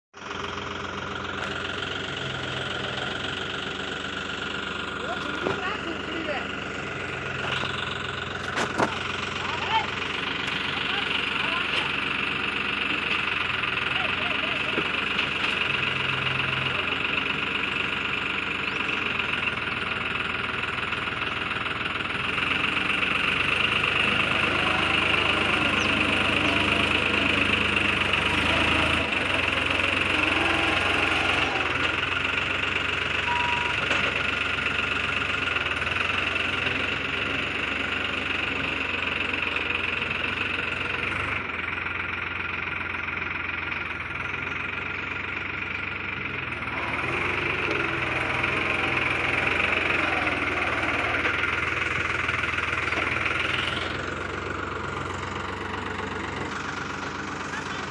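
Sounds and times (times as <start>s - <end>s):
tractor diesel engine running: 0.1s - 57.9s.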